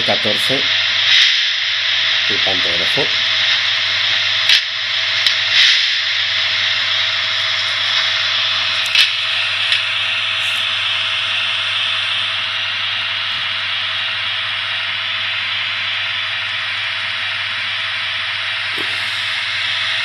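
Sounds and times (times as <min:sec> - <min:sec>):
low hum: 0:00.0 - 0:20.0
steady hissing: 0:00.0 - 0:20.0.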